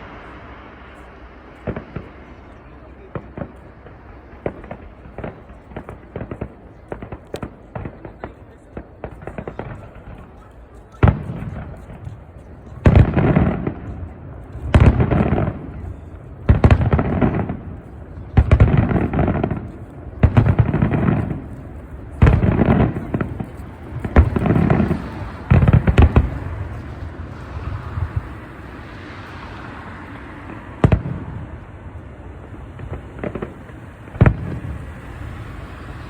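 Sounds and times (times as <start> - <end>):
firework shells booming: 0.0 - 36.0
rumbling crackle: 0.0 - 36.0.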